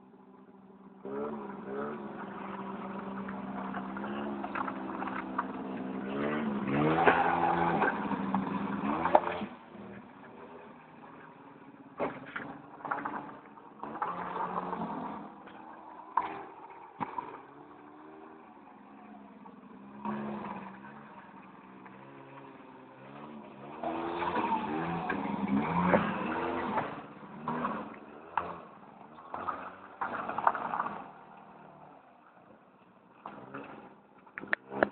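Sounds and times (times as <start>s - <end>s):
quad bike engine revving: 1.0s - 10.8s, 12.0s - 31.3s, 33.2s - 34.9s.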